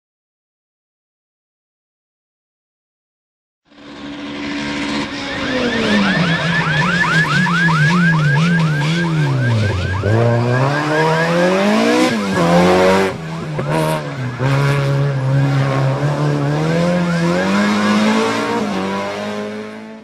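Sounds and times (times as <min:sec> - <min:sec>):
rally car engine revving: 0:03.7 - 0:20.0.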